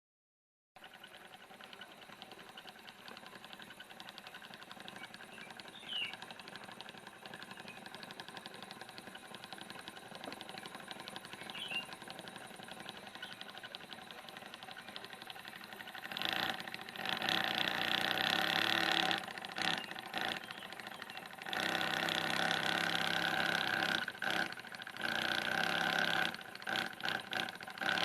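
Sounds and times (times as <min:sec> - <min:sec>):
miniature engine revving: 0:00.8 - 0:28.0.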